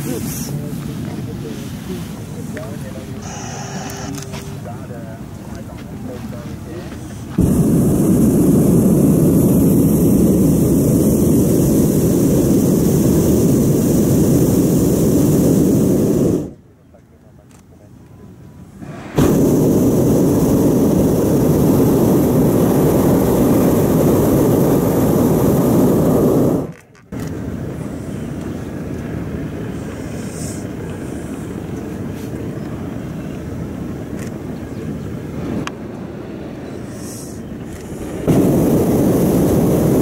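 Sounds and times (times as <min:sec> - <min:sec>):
steady rushing noise: 0:00.0 - 0:16.6, 0:18.7 - 0:32.1, 0:35.2 - 0:40.0
propane burner roaring: 0:01.9 - 0:06.2, 0:07.2 - 0:16.6, 0:18.8 - 0:33.0, 0:35.1 - 0:40.0.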